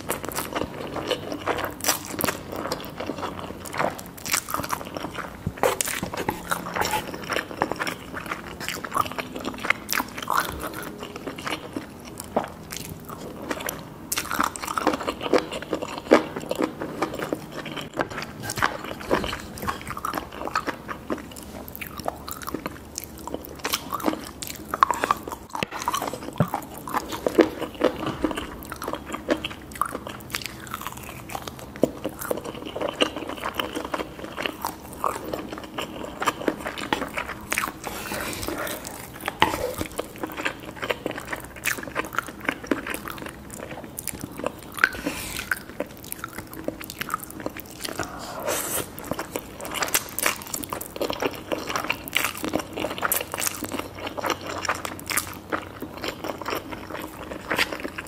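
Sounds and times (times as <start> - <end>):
chewing and wet mouth noises: 0.0 - 58.0.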